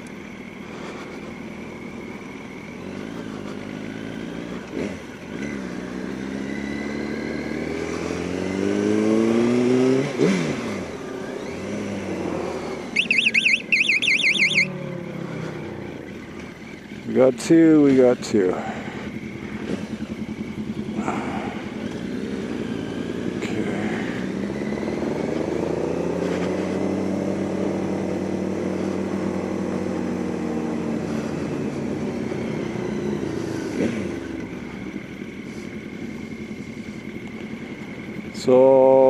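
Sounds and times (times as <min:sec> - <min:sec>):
motorcycle engine accelerating: 0:00.0 - 0:17.2, 0:17.8 - 0:39.0.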